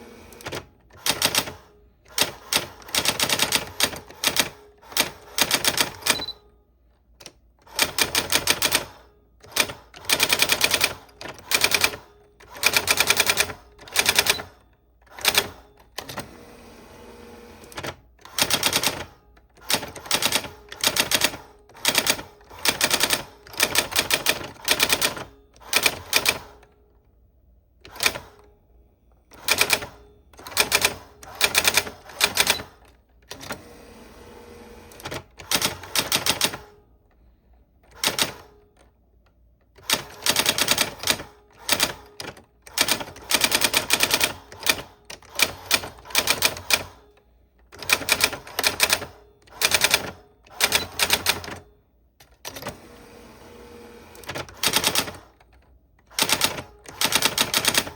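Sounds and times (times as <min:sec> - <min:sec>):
typewriter keys clicking: 0:00.4 - 0:06.3, 0:07.2 - 0:16.2, 0:17.7 - 0:26.7, 0:27.8 - 0:28.4, 0:29.3 - 0:33.6, 0:34.9 - 0:36.7, 0:37.9 - 0:38.9, 0:39.8 - 0:47.0, 0:47.7 - 0:51.6, 0:54.2 - 0:57.9.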